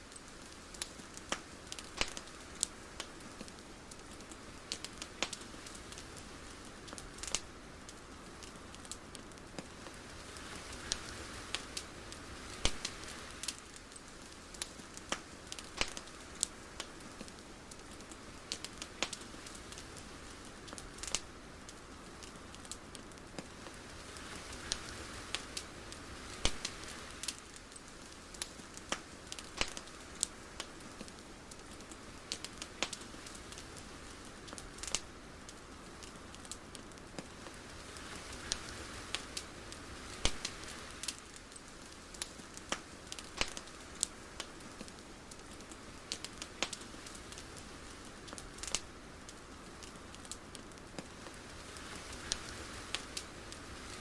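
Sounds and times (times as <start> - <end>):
crackles and ticks: 0.0 - 54.0
soft steady hiss: 0.0 - 54.0.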